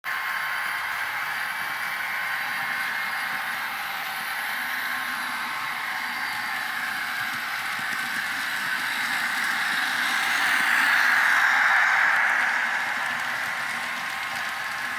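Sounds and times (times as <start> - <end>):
model train wheels whirring: 0.1 - 14.9.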